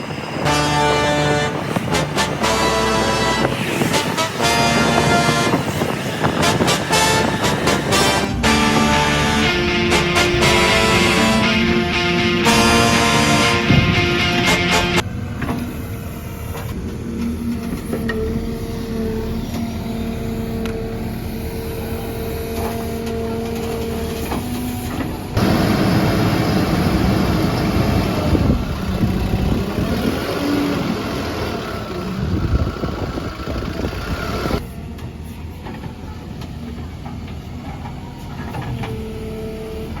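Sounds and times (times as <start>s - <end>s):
backhoe diesel engine running: 0.0s - 40.0s.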